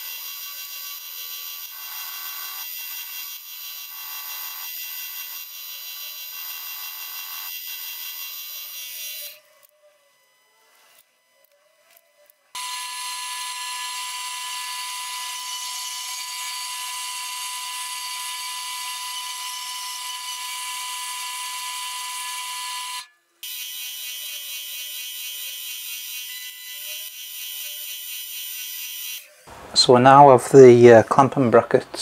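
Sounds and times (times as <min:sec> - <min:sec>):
drill boring into metal: 0:00.0 - 0:09.7, 0:10.8 - 0:29.4
bandsaw cutting metal: 0:00.0 - 0:29.6.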